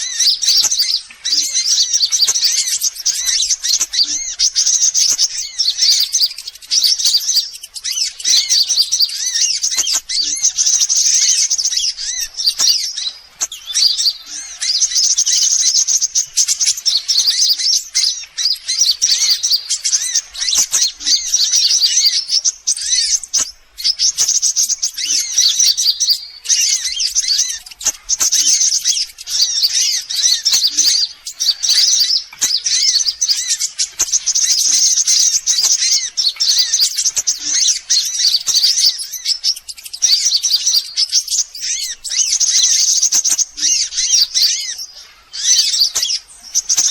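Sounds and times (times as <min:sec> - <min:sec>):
sunbirds chirping and twittering: 0:00.0 - 0:46.9.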